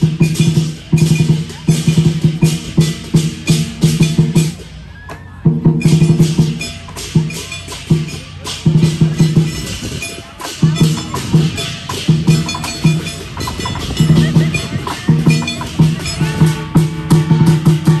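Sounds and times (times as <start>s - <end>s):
big drum beaten quickly: 0.0s - 18.0s
clashing cymbals: 0.0s - 18.0s.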